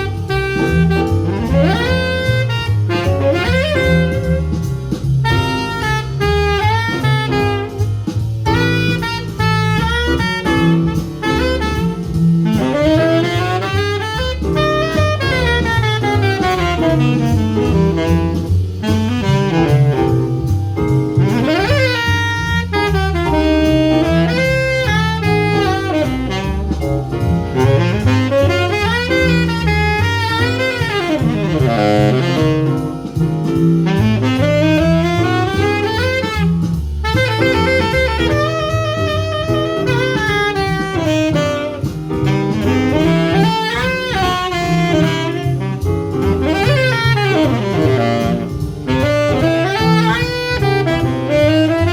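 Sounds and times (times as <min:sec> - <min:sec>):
drum kit: 0:00.0 - 0:51.9
jazz saxophone melody: 0:00.0 - 0:51.9
walking double bass: 0:00.0 - 0:51.9.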